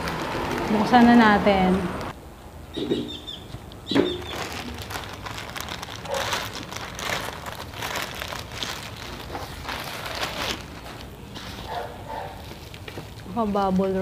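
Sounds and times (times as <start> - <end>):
plastic bag crinkling: 0.0 - 1.7, 4.0 - 14.0.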